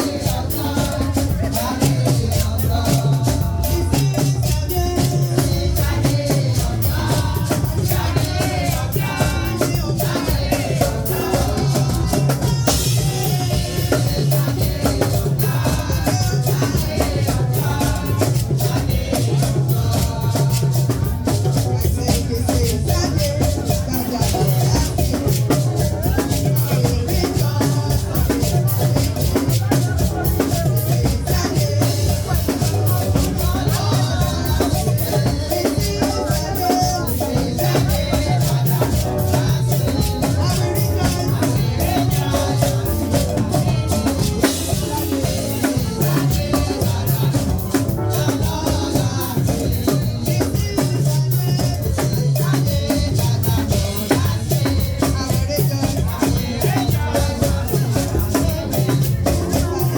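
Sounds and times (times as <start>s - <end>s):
live praise band playing: 0.0s - 59.9s
shakers rattling: 0.0s - 59.9s.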